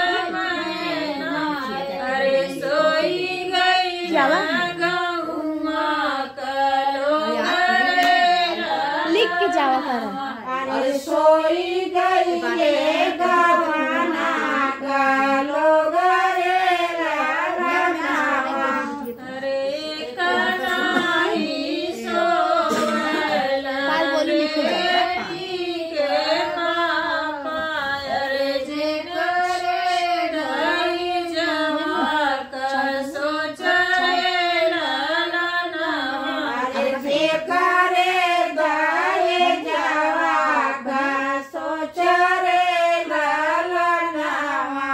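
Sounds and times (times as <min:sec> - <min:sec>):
women singing folk song: 0:00.0 - 0:44.9.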